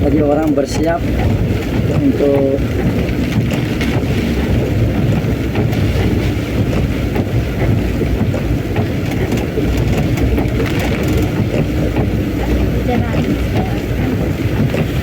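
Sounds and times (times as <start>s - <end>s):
heavy rain: 0.0s - 15.0s
strong wind: 0.0s - 15.0s.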